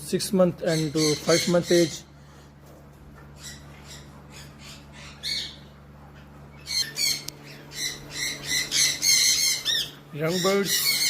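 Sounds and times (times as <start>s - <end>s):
birds squawking: 0.2s - 2.6s, 3.2s - 11.0s.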